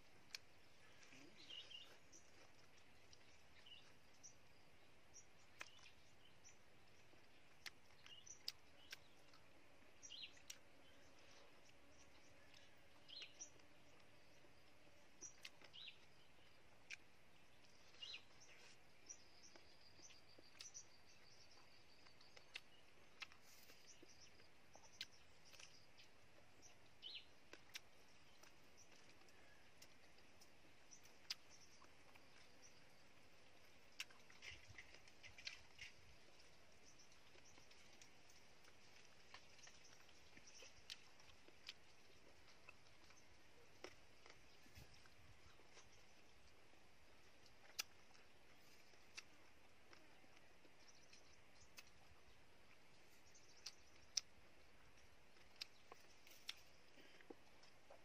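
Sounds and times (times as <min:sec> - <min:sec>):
birds chirping: 0:00.0 - 0:58.0
mouth clicks and chewing: 0:00.0 - 0:58.0.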